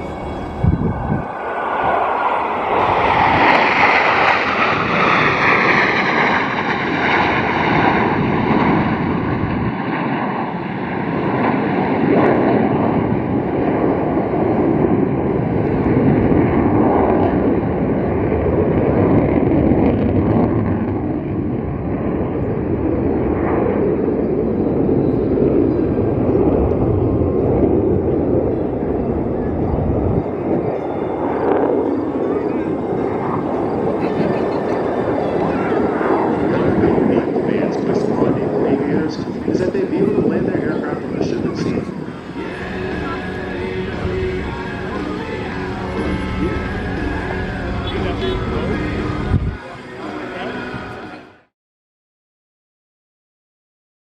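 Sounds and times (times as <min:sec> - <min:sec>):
jet engine whine: 0:00.0 - 0:51.5.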